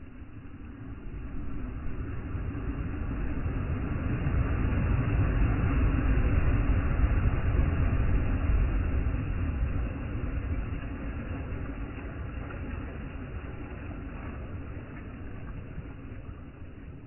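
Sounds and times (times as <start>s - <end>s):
waves washing up sandy shore: 1.4s - 17.0s.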